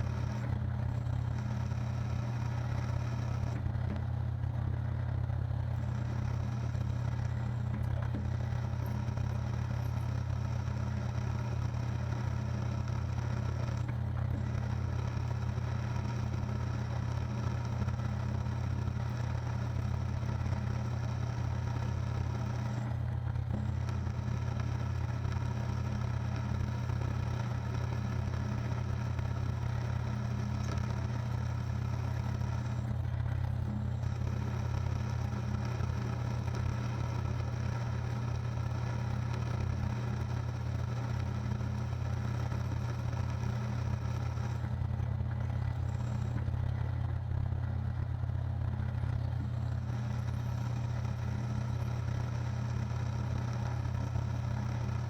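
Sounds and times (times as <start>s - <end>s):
machine motor humming: 0.0s - 55.0s.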